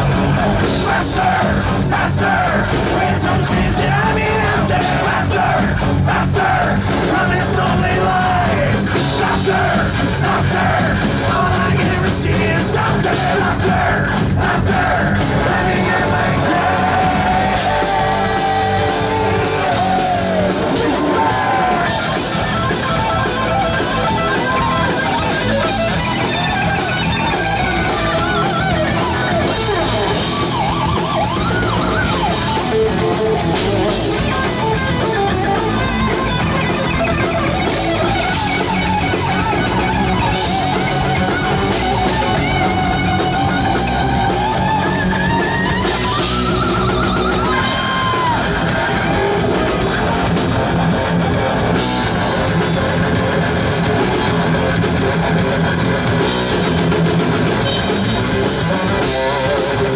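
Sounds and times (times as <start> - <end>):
shouted vocals: 0.0 - 55.4
bass guitar: 0.0 - 59.9
distorted electric guitars: 0.0 - 59.9
drums: 0.0 - 59.9.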